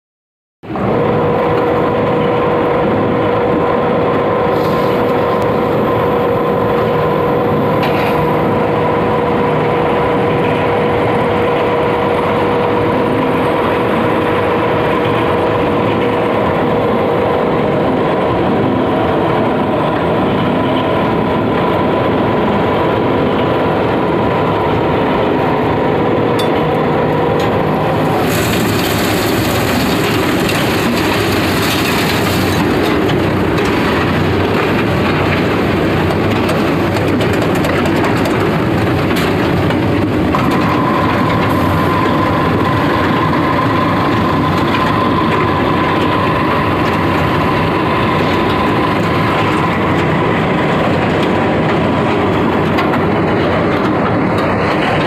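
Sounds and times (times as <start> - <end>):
steady machine whine: 0.6 - 55.0
concrete plant mechanical din: 0.7 - 55.0
hissy machine noise: 0.8 - 55.0.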